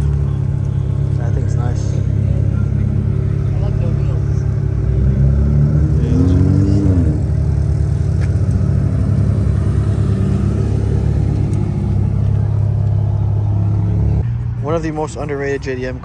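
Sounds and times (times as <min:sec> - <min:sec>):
car engine running: 0:00.0 - 0:14.2.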